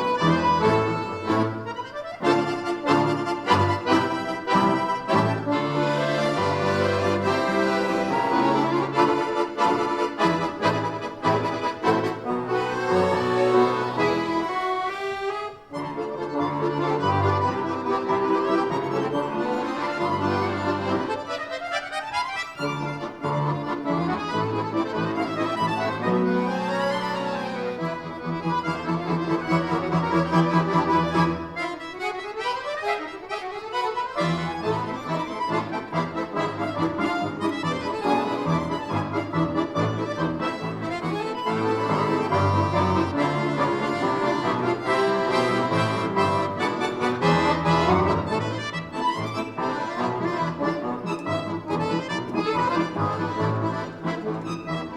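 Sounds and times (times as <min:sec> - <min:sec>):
button accordions playing chords: 0:00.0 - 0:54.9.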